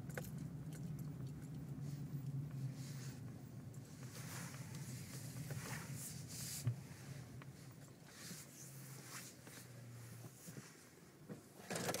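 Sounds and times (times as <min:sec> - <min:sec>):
car engine low hum: 0:00.0 - 0:12.0.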